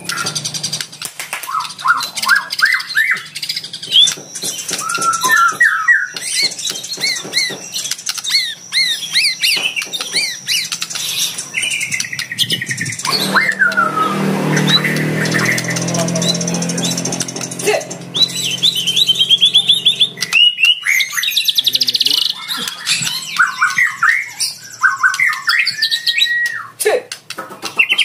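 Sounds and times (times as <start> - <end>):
bird singing whistled song: 1.5 - 26.8.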